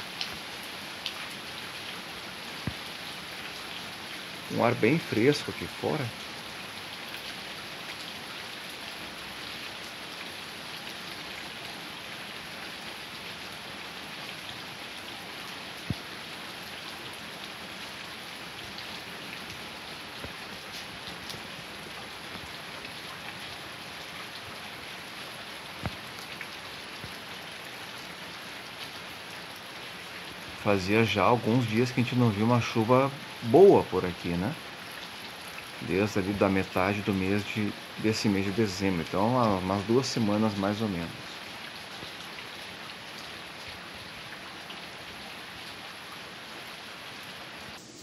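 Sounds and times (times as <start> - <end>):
rain falling on street: 0.0 - 47.8.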